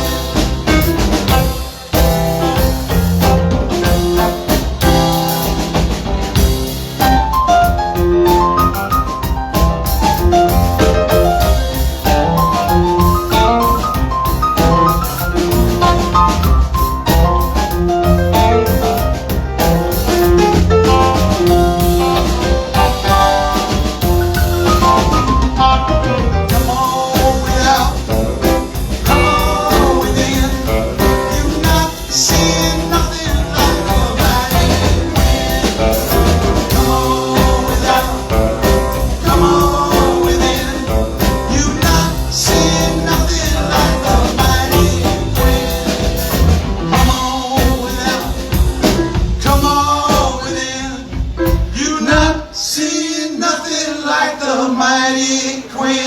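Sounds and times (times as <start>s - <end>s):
live blues-rock band playing: 0.0s - 52.4s.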